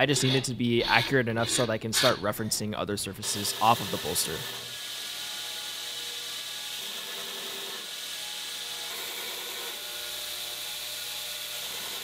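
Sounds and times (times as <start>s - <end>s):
belt grinder grinding steel: 0.0s - 2.3s, 3.2s - 12.0s.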